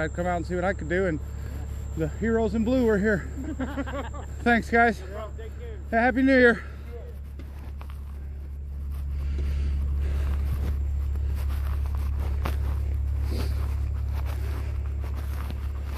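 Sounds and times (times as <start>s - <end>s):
fire engine idling: 0.0s - 15.9s
footsteps in snow: 0.0s - 15.9s.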